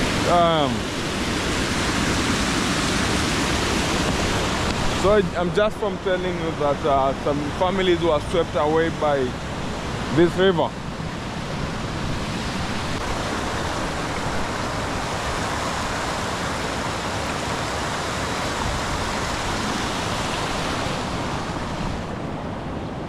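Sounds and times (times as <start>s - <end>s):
river rushing over rocks: 0.0s - 22.8s.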